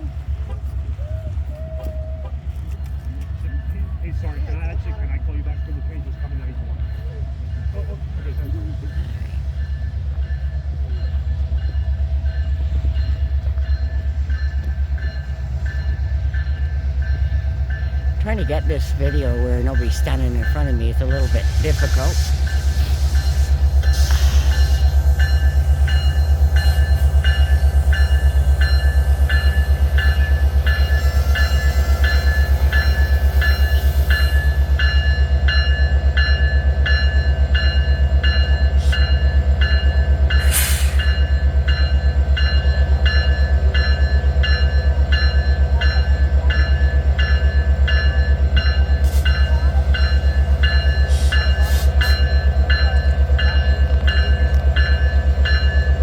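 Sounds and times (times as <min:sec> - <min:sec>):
diesel locomotive rumbling: 0:00.0 - 0:56.0
locomotive bell ringing: 0:02.8 - 0:22.6, 0:23.2 - 0:56.0.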